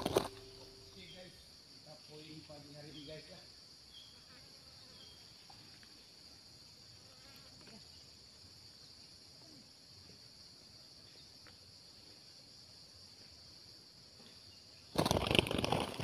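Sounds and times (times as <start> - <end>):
faint high-pitched insect drone: 0.0 - 16.0.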